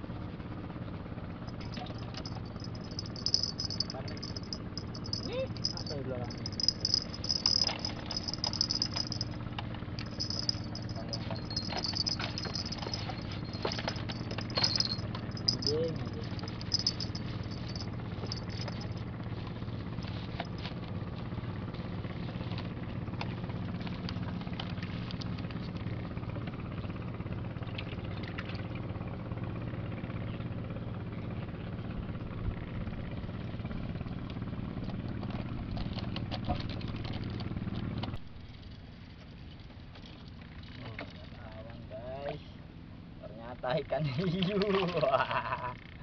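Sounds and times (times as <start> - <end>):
boat engine humming: 0.0 - 43.2.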